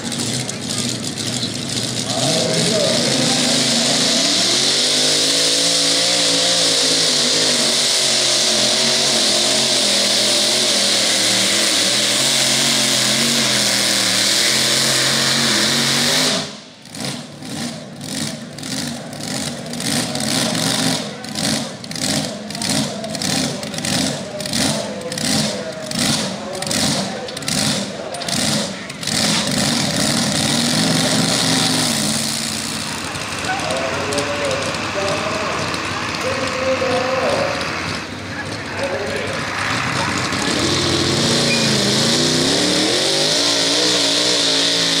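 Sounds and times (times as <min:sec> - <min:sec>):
engine loping idle: 0:00.0 - 0:44.4
tractor engine at full throttle: 0:00.0 - 0:45.0.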